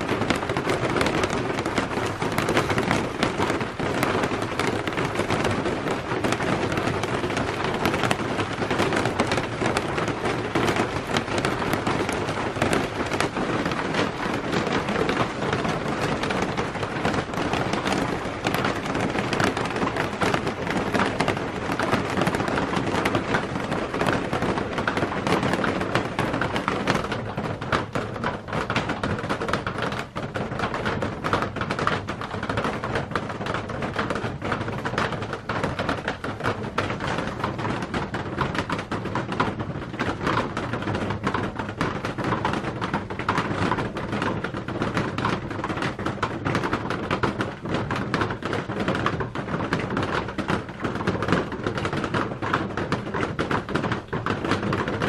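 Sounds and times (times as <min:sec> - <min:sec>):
rain on a plastic roof: 0:00.0 - 0:55.0.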